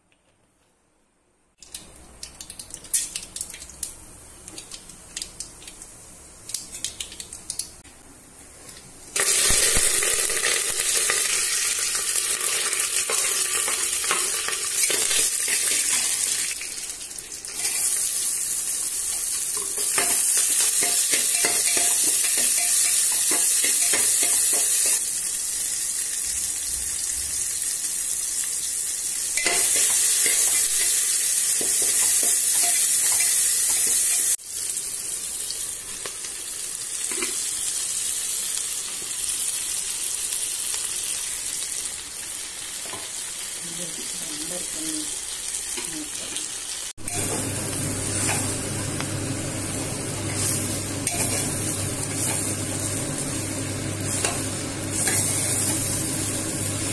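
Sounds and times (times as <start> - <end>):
seeds crackling in hot oil: 1.6 - 7.9, 8.6 - 56.9
food sizzling in oil: 9.0 - 56.9.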